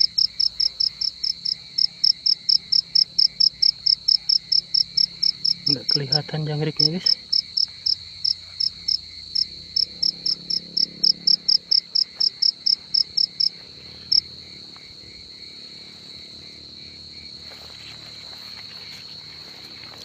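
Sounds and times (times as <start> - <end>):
cricket chirping: 0.0 - 20.0
high insect trill: 0.0 - 20.0.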